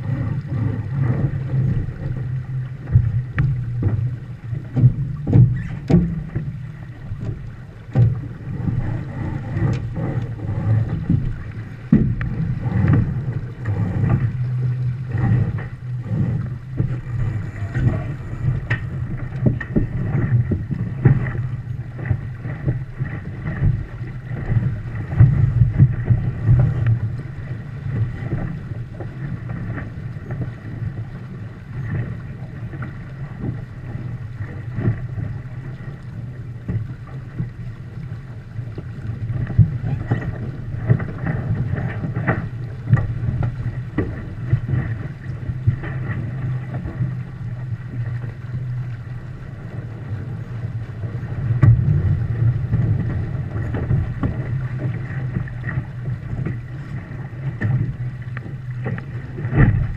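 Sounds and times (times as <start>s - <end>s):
hull knocking on waves: 0.0s - 59.9s
water rushing against hull: 0.0s - 59.9s
wind buffeting microphone: 0.0s - 59.9s.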